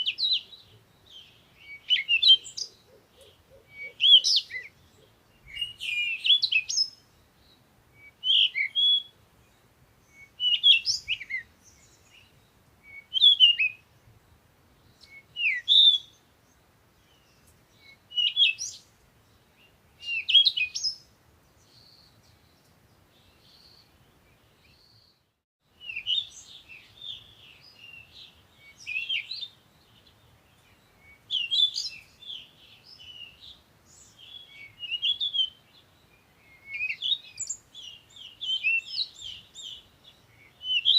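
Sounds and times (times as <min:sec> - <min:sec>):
birds twittering calls: 0:00.0 - 0:40.9
songbirds singing: 0:00.0 - 0:40.9.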